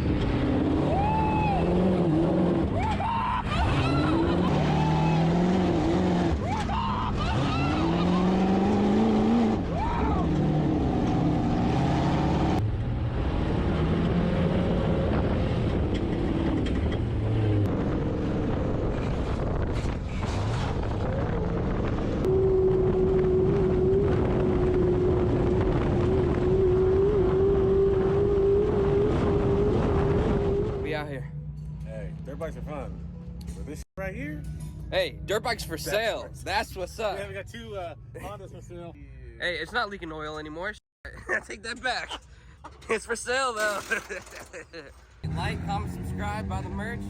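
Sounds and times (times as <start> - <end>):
off-road vehicle engine revving: 0.0 - 38.8, 45.2 - 47.0.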